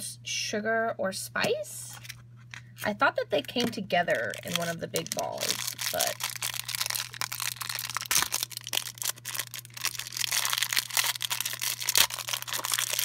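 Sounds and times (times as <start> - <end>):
plastic wrapper crinkling and tearing: 1.9 - 13.0.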